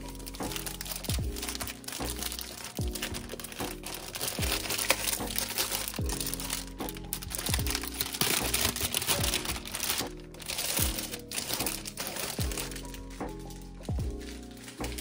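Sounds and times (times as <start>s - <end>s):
lo-fi background music: 0.0s - 15.0s
packaging crinkling: 0.0s - 15.0s.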